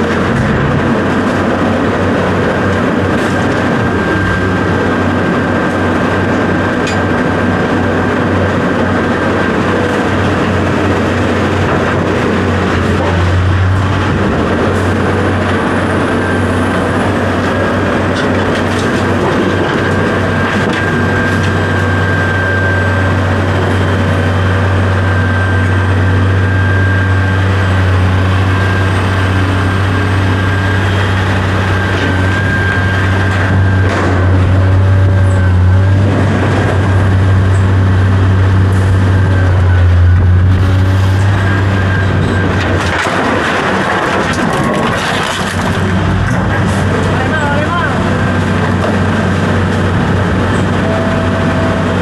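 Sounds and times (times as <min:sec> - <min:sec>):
heavy engine running: 0:00.0 - 0:52.0.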